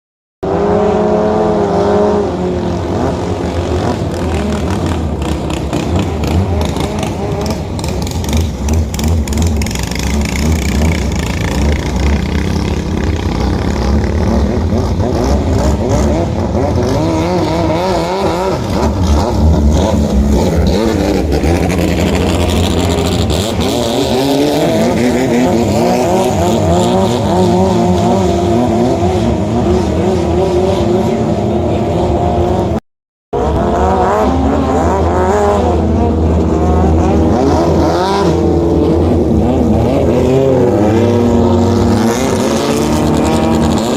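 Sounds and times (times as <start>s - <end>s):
boat engine revving high: 0.5s - 32.8s, 33.4s - 43.9s.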